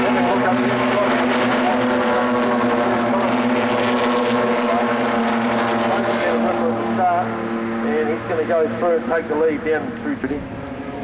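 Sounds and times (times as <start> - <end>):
racing car engines running hard: 0.0 - 11.0.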